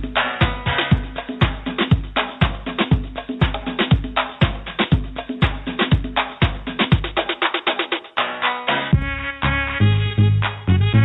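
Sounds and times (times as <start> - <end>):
busy percussion: 0.0 - 11.0
music with steady kick drum: 0.0 - 11.0.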